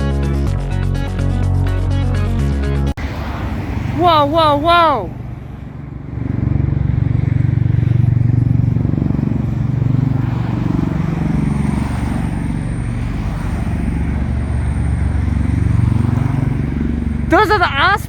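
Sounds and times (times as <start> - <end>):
aircraft rotor drone: 3.0 - 18.0.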